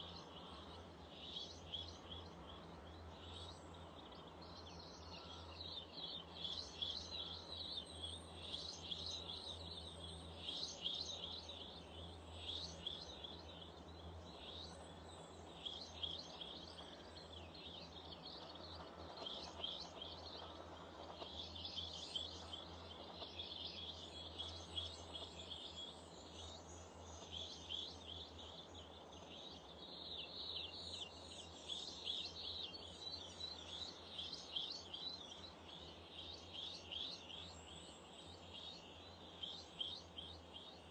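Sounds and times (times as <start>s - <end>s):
small birds chirping and singing: 0.0s - 40.9s.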